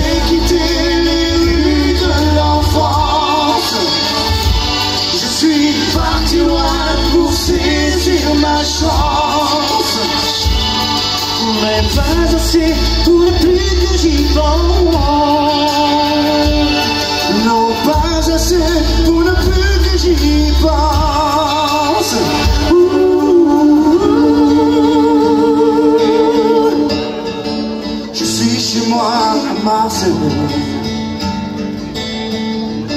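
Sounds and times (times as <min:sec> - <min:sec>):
man singing with vibrato: 0:00.0 - 0:32.2
live band playing: 0:00.0 - 0:32.9.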